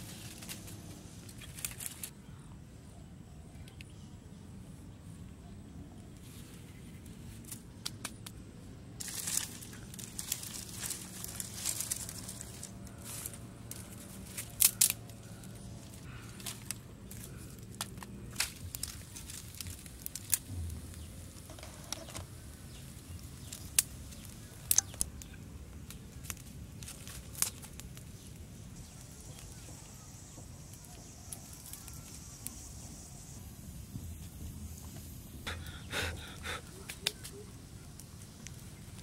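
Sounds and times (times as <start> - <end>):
dry twigs rustling and cracking: 0.0 - 2.2, 6.0 - 33.3, 35.5 - 39.0.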